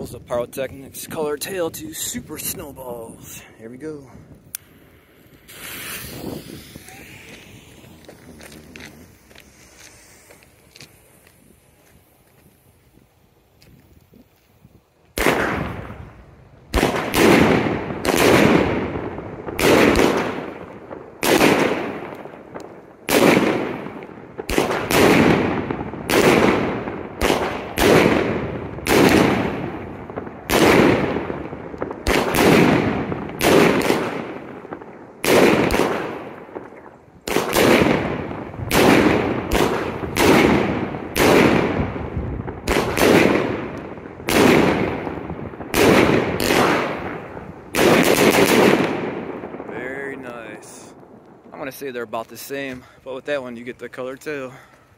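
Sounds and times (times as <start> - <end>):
firework shots with echo: 1.1 - 12.1, 15.1 - 52.8.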